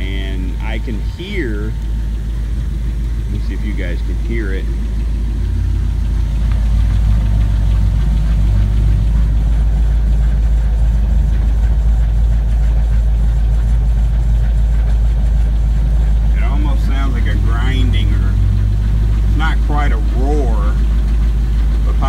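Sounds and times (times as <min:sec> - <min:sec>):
engine idling low rumble: 0:00.0 - 0:22.0
grinding noise from differential: 0:00.0 - 0:22.0.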